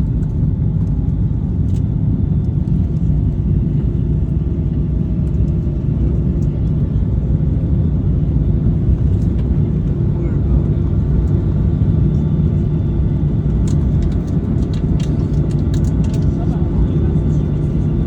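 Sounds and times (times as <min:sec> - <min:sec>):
airplane cabin low rumble: 0:00.0 - 0:18.0.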